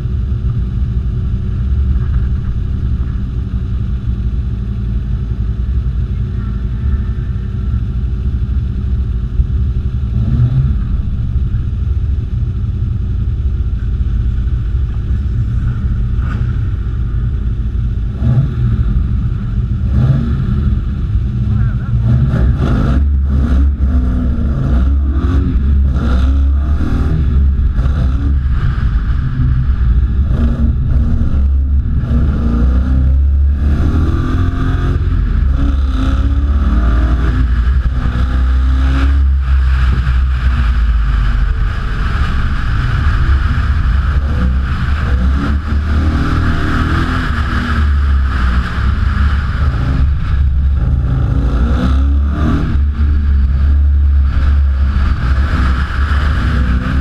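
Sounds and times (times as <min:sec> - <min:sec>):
heavy low rumble: 0:00.0 - 0:57.0
race car engine revving: 0:00.0 - 0:57.0.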